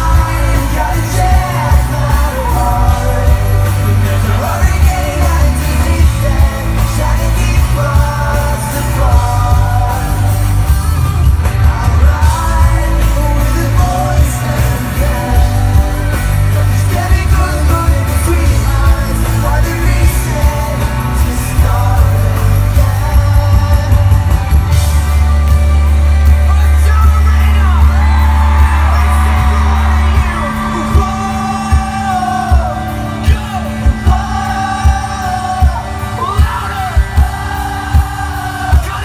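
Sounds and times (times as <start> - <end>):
crowd yelling: 0.0 - 39.0
heavy bass: 0.0 - 39.0
person singing: 0.0 - 39.0
pop-rock band playing live: 0.0 - 39.0.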